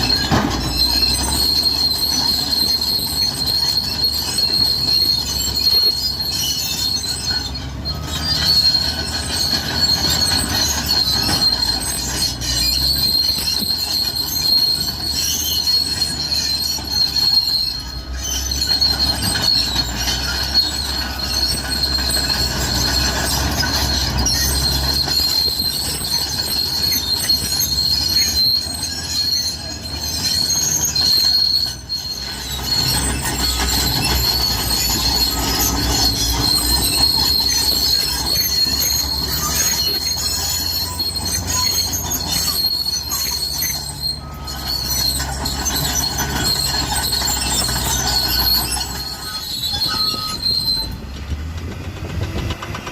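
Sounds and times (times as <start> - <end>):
bulldozer diesel engine running: 0.0 - 52.9
crawler tracks squealing: 0.0 - 52.9.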